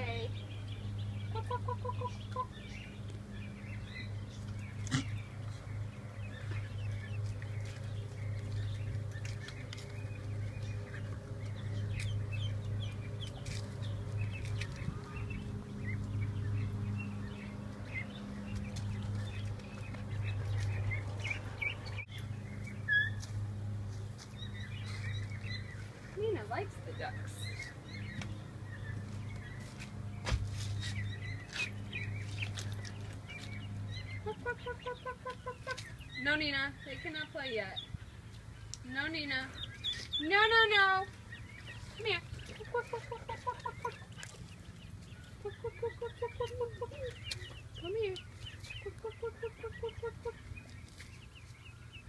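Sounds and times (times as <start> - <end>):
ducklings peeping: 0.0 - 52.0
steady low hum: 0.0 - 52.0.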